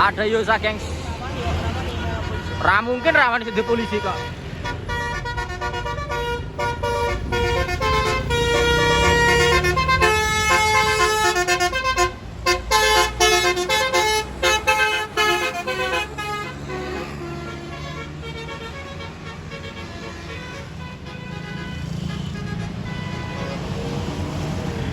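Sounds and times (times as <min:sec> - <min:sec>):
bus engine rumble: 0:00.0 - 0:24.9
bus multi-tone horn melody: 0:01.8 - 0:24.9.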